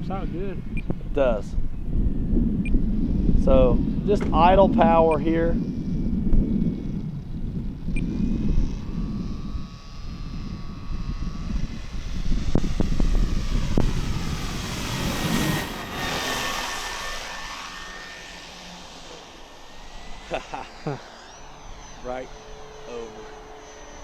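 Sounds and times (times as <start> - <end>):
model plane motor whine: 0.0 - 24.0
wind rumble on microphone: 0.0 - 24.0.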